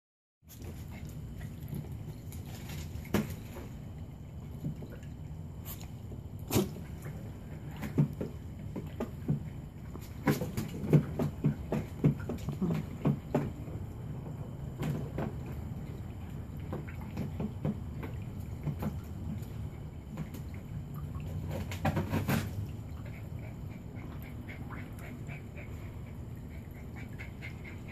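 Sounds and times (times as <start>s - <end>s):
steady low hum: 0.5s - 27.9s.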